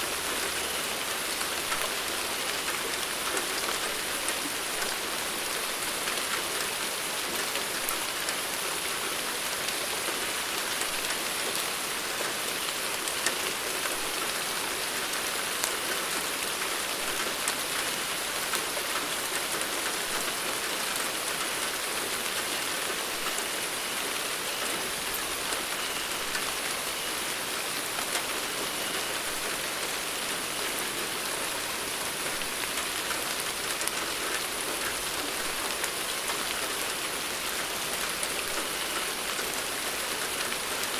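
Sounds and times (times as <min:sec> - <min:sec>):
steady rain: 0:00.0 - 0:40.9
raindrops ticking on a surface: 0:00.1 - 0:40.9.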